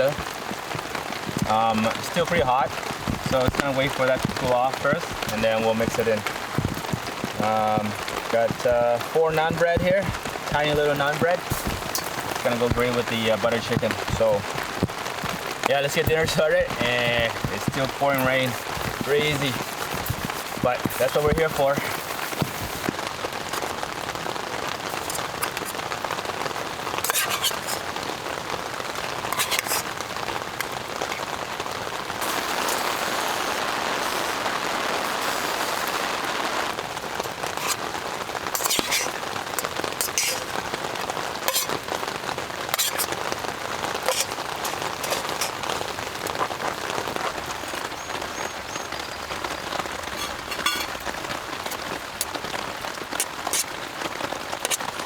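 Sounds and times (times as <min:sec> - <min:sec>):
heavy rain pouring: 0:00.0 - 0:55.0
sharp raindrops striking close by: 0:00.0 - 0:55.0.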